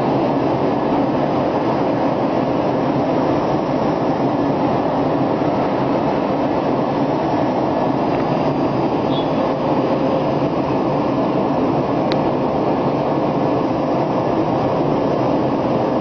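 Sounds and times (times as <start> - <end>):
milling machine running: 0.0 - 16.0.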